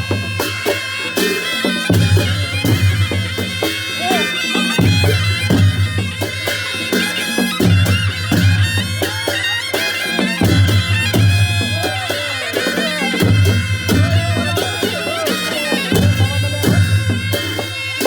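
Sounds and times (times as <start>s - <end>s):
drums and cymbals: 0.0s - 18.0s
reed pipes wailing melody: 0.0s - 18.0s.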